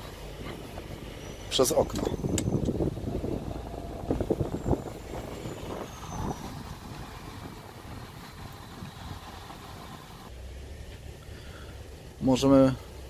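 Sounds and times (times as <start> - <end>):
tyres and engine rumble: 0.0 - 13.0.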